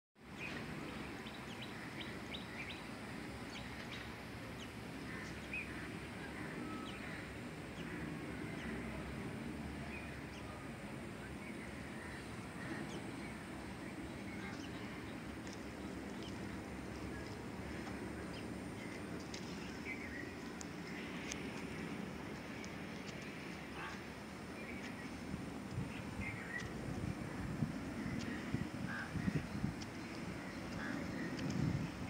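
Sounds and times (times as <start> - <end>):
low outdoor rumble: 0.2 - 32.0
birds chirping: 0.3 - 32.0.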